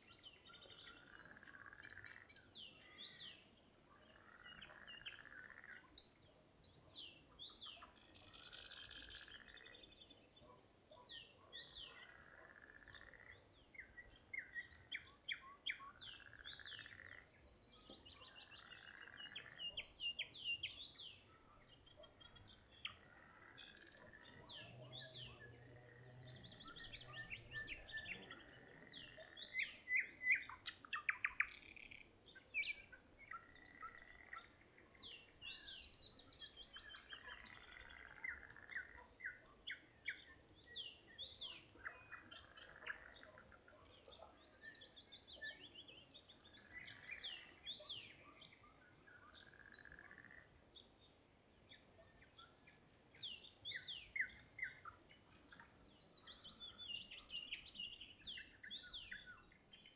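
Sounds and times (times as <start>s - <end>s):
nightingale singing: 0.0s - 51.0s, 51.6s - 59.9s.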